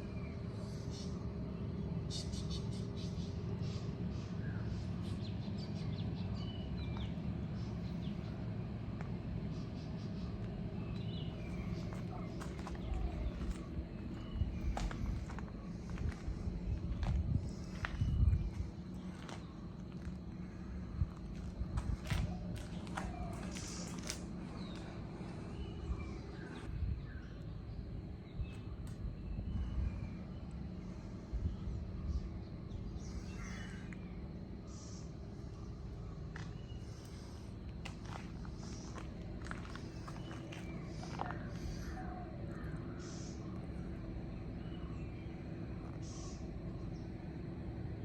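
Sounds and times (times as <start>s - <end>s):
steady low rumble: 0.0s - 48.0s.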